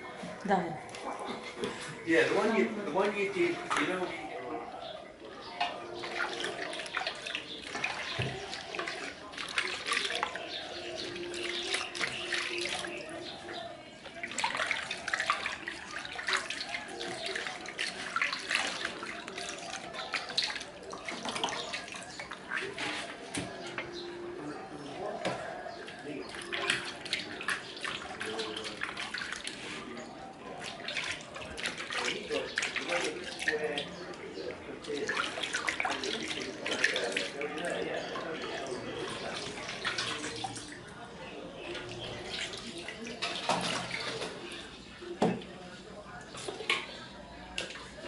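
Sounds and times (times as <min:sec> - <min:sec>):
wet squelching and sloshing: 0:00.3 - 0:24.1, 0:25.0 - 0:44.9
small splashes and clicks: 0:05.2 - 0:23.7, 0:25.3 - 0:40.9, 0:41.6 - 0:44.7, 0:46.2 - 0:48.0.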